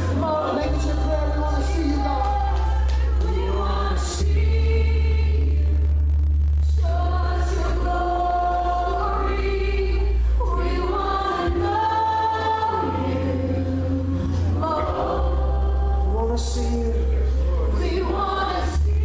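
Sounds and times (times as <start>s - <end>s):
group of voices singing: 0.0s - 19.0s
sustained low bass notes: 0.0s - 19.0s.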